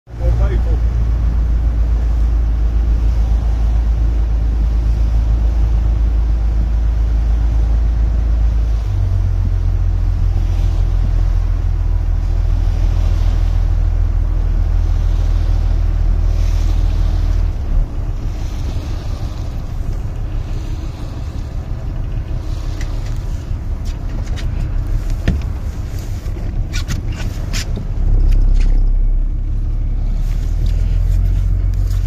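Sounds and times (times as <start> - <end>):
motorboat engine running: 0.1 - 32.0
water rushing along hull: 0.1 - 32.0.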